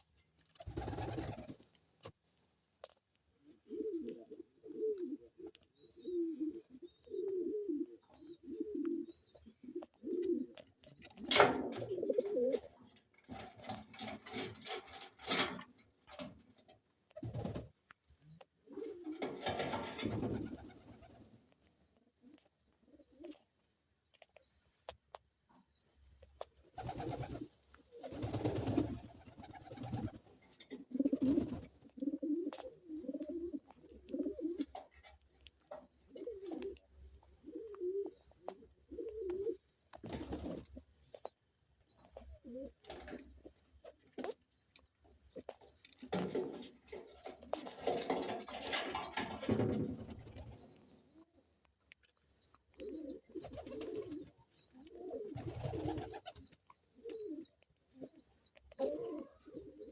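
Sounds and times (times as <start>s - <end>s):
small birds chirping faintly: 0.0s - 59.9s
pigeons cooing: 0.6s - 1.6s, 3.4s - 16.3s, 17.1s - 21.3s, 26.7s - 41.3s, 41.9s - 44.5s, 45.1s - 51.4s, 52.2s - 59.9s.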